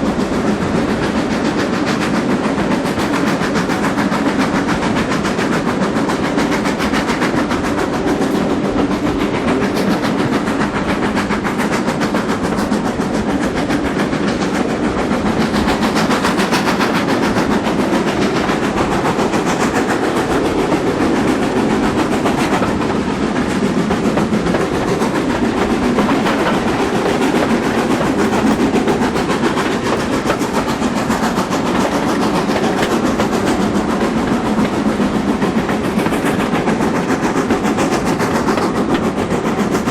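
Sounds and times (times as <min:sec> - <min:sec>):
carriage wheels clattering on track: 0:00.0 - 0:39.9
steam train running: 0:00.0 - 0:39.9.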